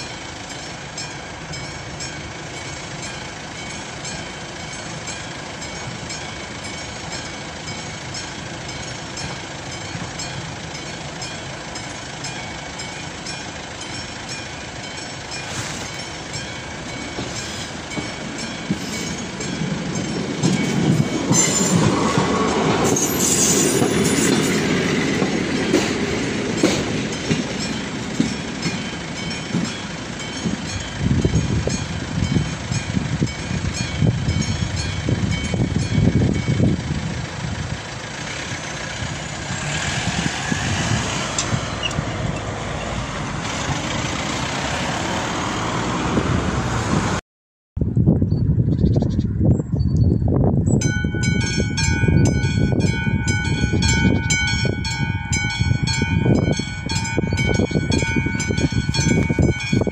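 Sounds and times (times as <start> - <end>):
level crossing warning bell: 0.0 - 39.5, 50.8 - 59.9
diesel railbus rumble: 0.0 - 47.2, 47.8 - 59.9.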